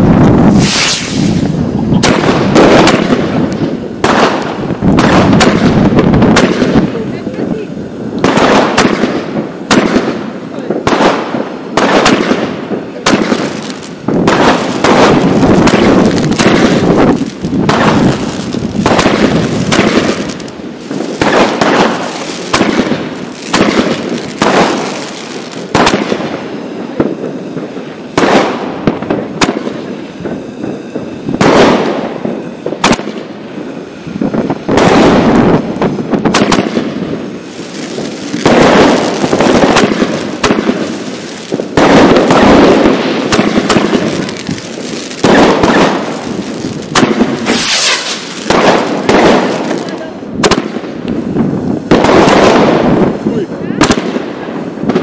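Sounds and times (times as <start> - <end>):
firework bangs: 0.0 - 55.0
firework crackle: 0.0 - 55.0.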